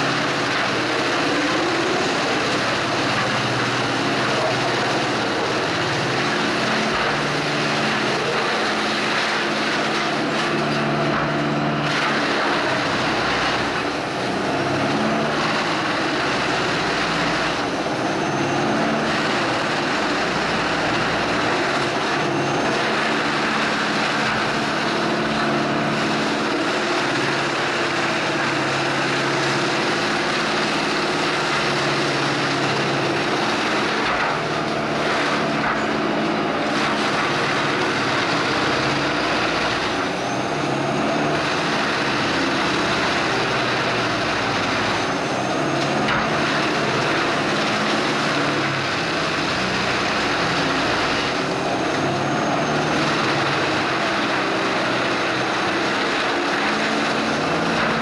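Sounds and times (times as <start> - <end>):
wood chipper chipping logs: 0.0 - 58.0.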